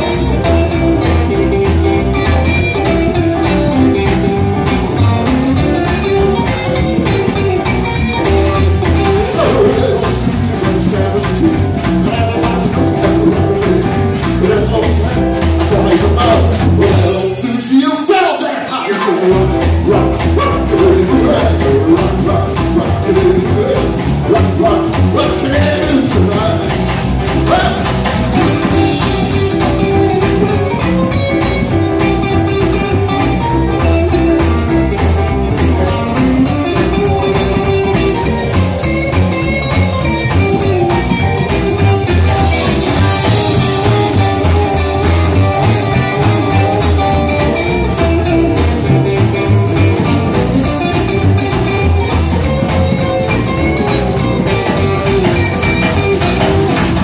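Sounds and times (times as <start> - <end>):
electric guitar lead: 0.0 - 57.0
rockabilly band playing: 0.0 - 57.0.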